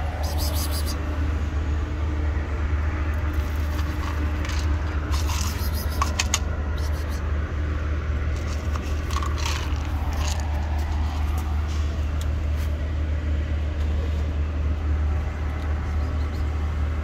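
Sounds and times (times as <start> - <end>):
low rumble of motor traffic: 0.0 - 17.0.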